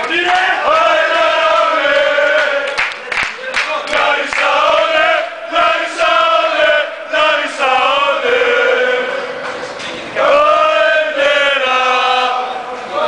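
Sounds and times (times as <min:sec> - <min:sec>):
crowd chanting: 0:00.0 - 0:13.0.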